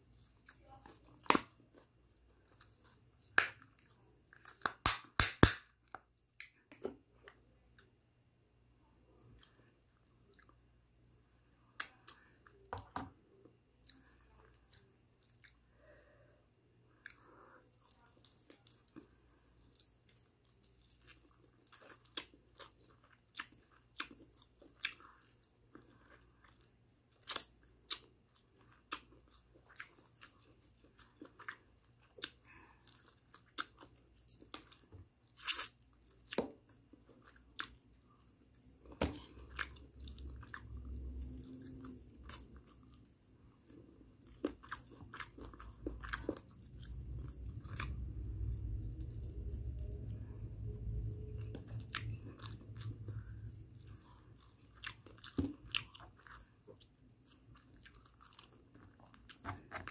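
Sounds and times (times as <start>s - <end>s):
person chewing: 0.0s - 7.9s, 16.9s - 59.9s.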